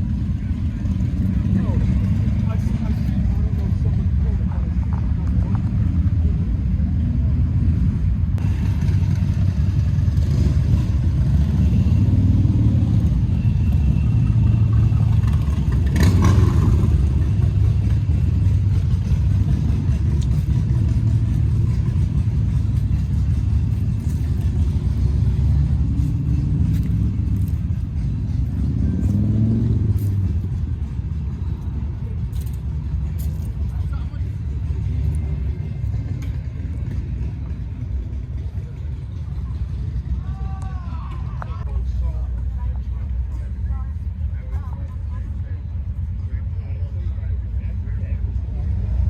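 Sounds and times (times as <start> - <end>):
vehicle engine running: 0.0 - 49.0.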